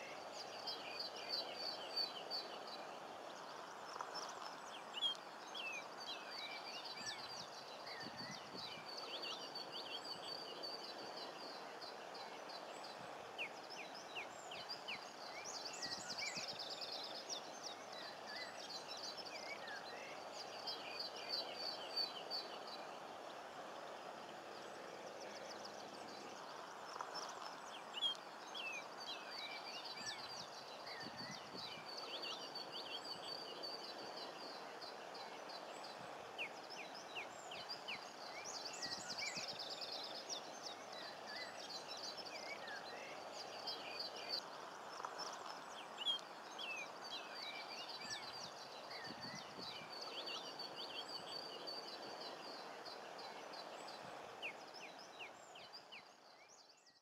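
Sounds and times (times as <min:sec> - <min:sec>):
birds chirping and twittering: 0:00.0 - 0:57.0
steady low background noise: 0:00.0 - 0:57.0.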